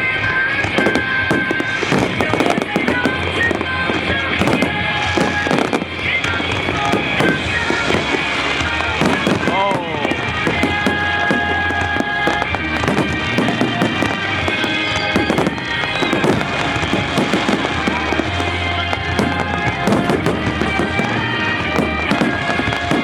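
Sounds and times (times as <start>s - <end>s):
fireworks bursting and crackling: 0.0s - 23.0s
loud music: 0.0s - 23.0s.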